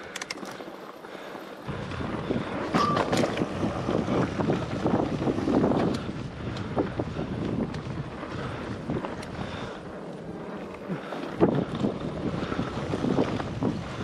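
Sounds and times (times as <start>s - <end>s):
bike rattling: 0.0s - 14.0s
tyres rolling over dirt and stones: 0.3s - 14.0s
wind buffeting microphone: 1.7s - 14.0s.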